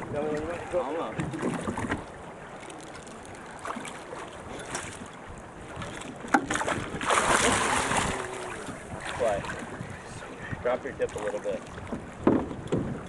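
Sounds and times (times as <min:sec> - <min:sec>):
wind buffeting microphone: 0:00.0 - 0:02.5, 0:03.2 - 0:13.0.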